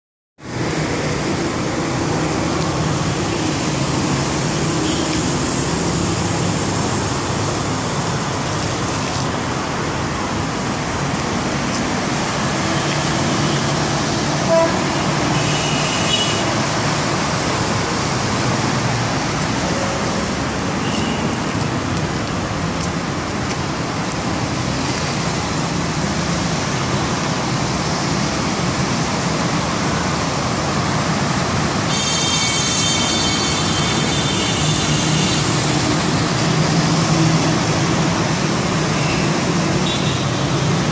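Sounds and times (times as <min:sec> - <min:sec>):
road traffic noise: 0:00.4 - 0:40.9.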